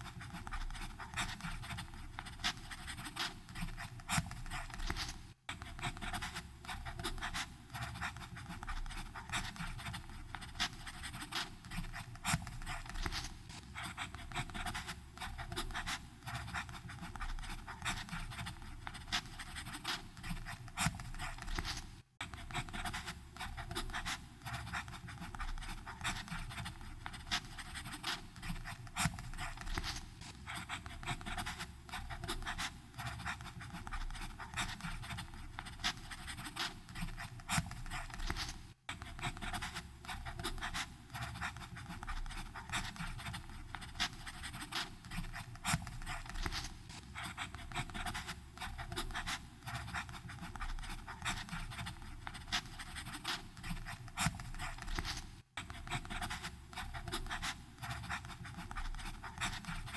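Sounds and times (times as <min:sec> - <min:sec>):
pen nib scratching on paper: 0:00.0 - 0:59.9.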